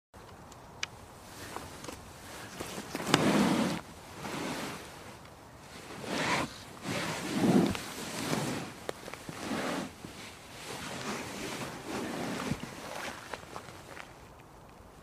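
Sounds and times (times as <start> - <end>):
couch upholstery rustling: 1.4 - 14.0.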